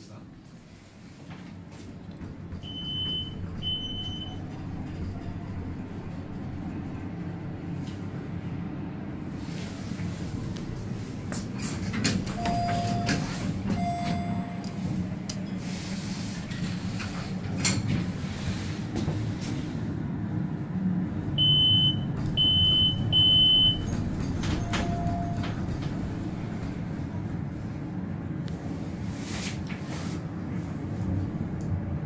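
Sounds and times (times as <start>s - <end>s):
elevator low rumble: 0.0s - 32.0s.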